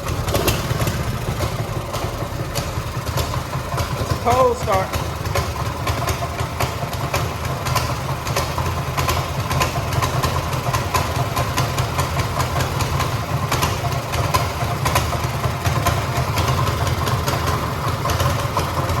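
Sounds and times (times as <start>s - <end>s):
mini bike engine idling: 0.0s - 19.0s.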